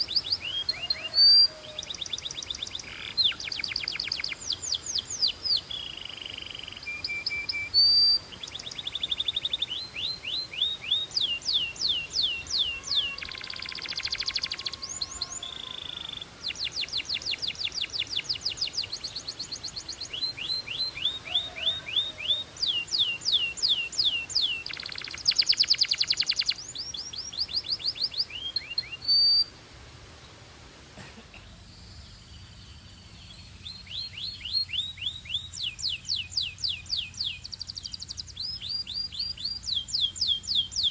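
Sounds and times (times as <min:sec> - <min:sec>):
canary singing trills: 0:00.0 - 0:29.5, 0:31.8 - 0:40.9.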